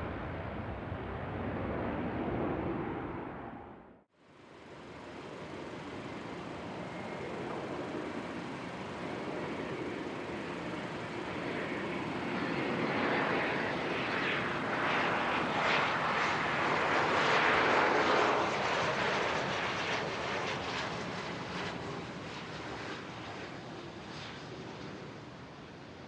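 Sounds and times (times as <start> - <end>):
jet aircraft passing: 0.0 - 26.0.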